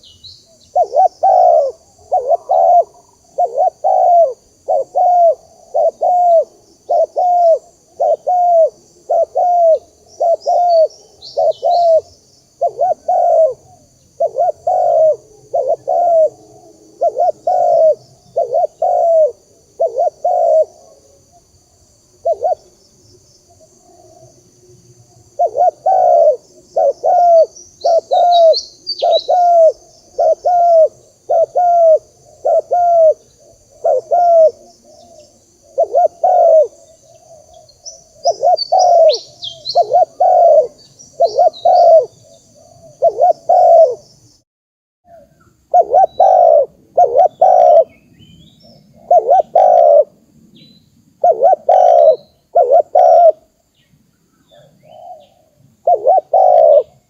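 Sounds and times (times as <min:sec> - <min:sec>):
faint small bird chirps: 0:00.0 - 0:16.4, 0:25.1 - 0:44.4, 0:45.1 - 0:57.0
dove cooing: 0:00.0 - 0:21.4, 0:22.2 - 0:22.8, 0:23.5 - 0:24.4, 0:25.2 - 0:44.1, 0:45.1 - 0:48.0, 0:48.6 - 0:50.2, 0:51.2 - 0:53.5, 0:54.5 - 0:57.0.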